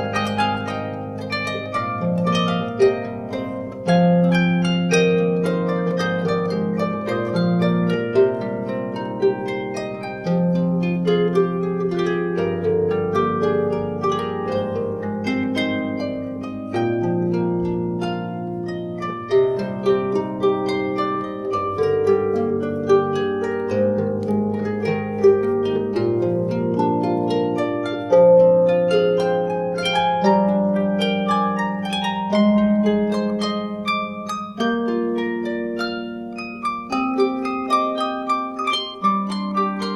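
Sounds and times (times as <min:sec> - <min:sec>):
harp plucked melody: 0:00.0 - 0:39.9.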